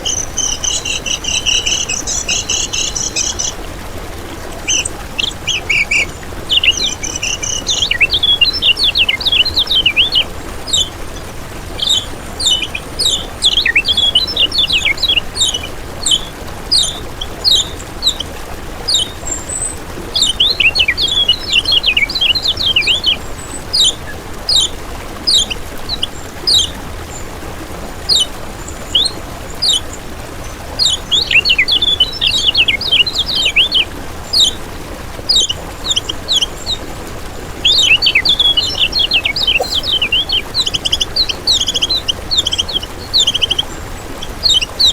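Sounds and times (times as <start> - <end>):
bird twittering song: 0.0 - 27.3, 28.0 - 44.9
faint steady hiss: 0.0 - 44.9.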